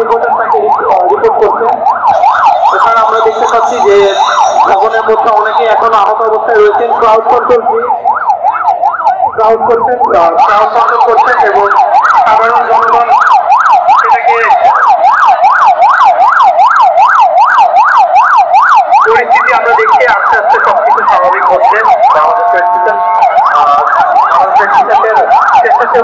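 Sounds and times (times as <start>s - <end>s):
electronic siren yelping: 0.0s - 26.0s.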